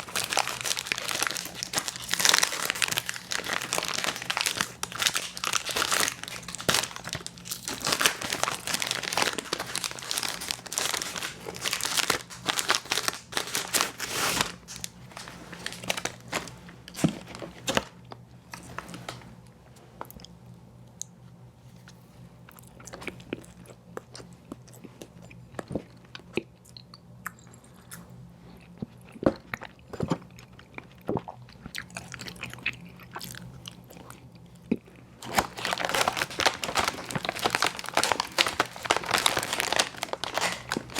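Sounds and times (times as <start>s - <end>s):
crunching and chewing ice cream: 0.0s - 19.0s, 20.0s - 40.9s.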